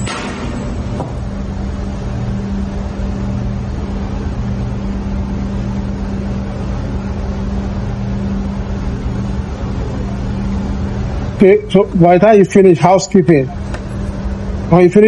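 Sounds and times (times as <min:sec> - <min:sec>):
engine-room machinery drone: 0:00.0 - 0:15.0.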